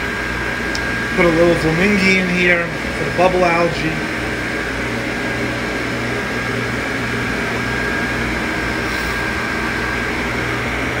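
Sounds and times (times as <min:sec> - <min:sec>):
aquarium pumps and fans droning: 0:00.0 - 0:11.0
thin steady whine: 0:00.0 - 0:11.0.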